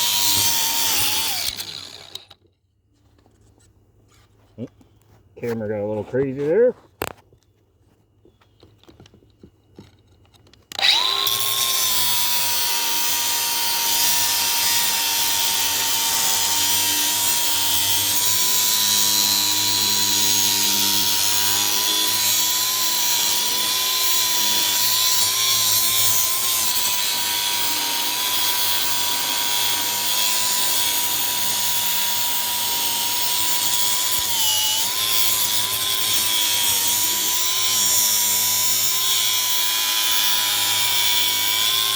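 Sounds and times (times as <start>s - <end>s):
power tool motor whine: 0.0s - 2.4s, 10.7s - 41.9s.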